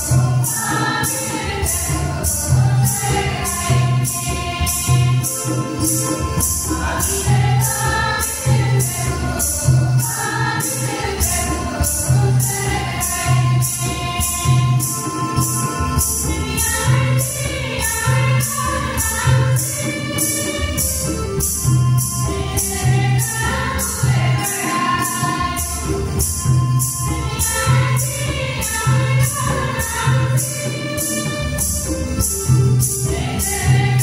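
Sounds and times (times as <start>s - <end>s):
choir and congregation singing: 0.0s - 34.0s
instrumental accompaniment with beat: 0.0s - 34.0s.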